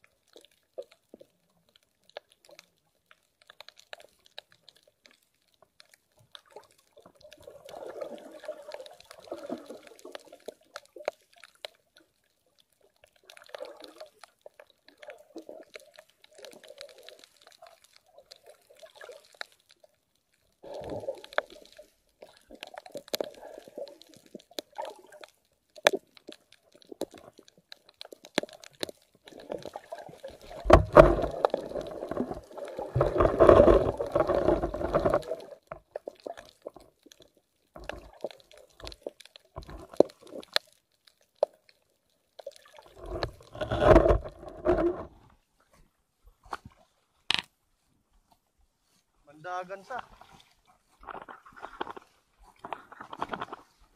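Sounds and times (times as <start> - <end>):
sharp underwater clicks: 0.0 - 45.1, 47.3 - 47.6
underwater seawater stirring: 0.0 - 45.8, 48.8 - 53.9.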